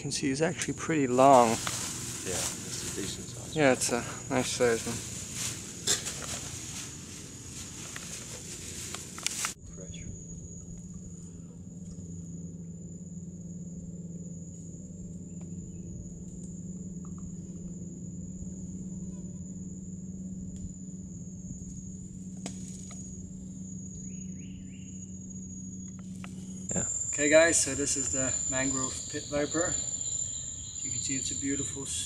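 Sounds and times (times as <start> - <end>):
insects trilling: 0.0 - 32.0
low hum: 0.0 - 32.0.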